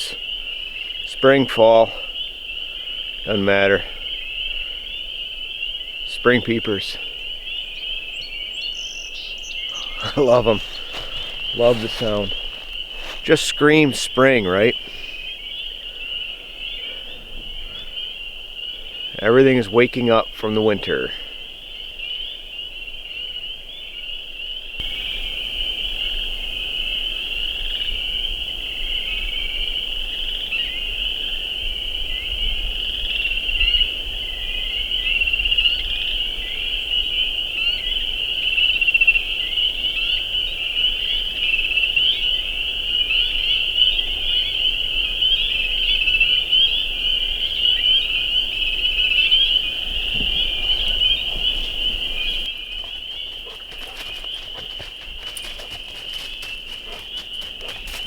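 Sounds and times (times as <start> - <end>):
frogs peeping chorus: 0.0 - 58.0.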